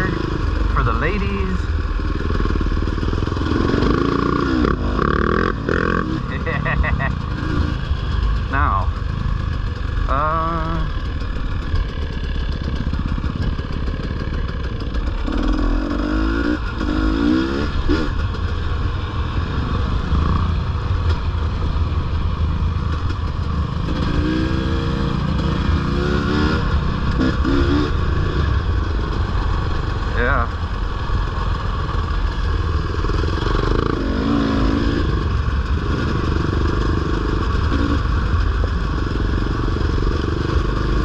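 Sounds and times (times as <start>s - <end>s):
dirt bike engine revving: 0.0s - 21.8s, 22.7s - 41.0s.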